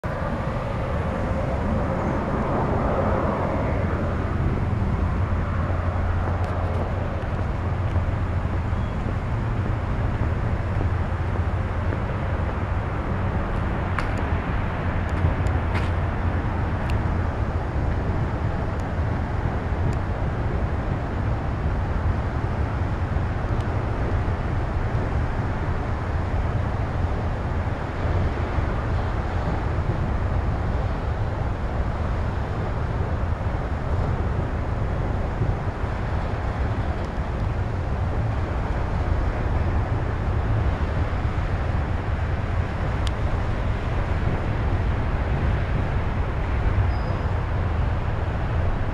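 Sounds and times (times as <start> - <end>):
freight train wheels rumbling on rail: 0.0 - 48.9.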